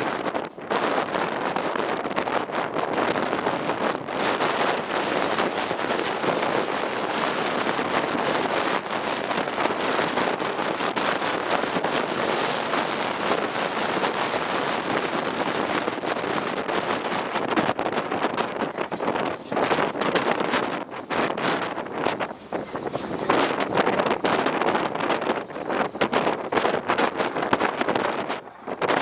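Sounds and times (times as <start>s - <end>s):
strong wind buffeting microphone: 0.0s - 29.0s.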